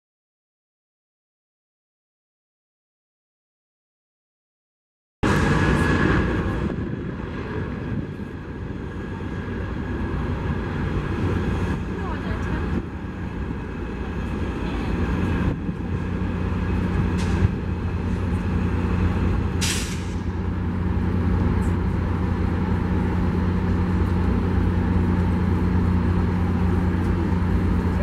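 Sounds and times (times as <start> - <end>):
diesel locomotive idling: 5.2 - 28.0.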